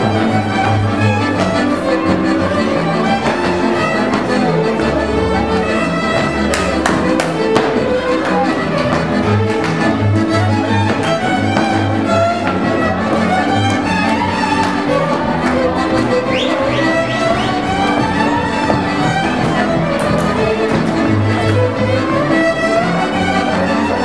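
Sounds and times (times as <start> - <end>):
double bass pulsing: 0.0 - 24.0
fiddles playing dance tune: 0.0 - 24.0.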